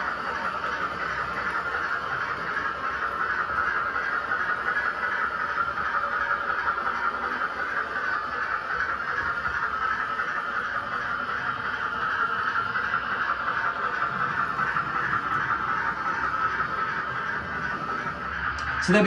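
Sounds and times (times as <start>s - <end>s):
model steam locomotive running hiss: 0.0s - 19.0s.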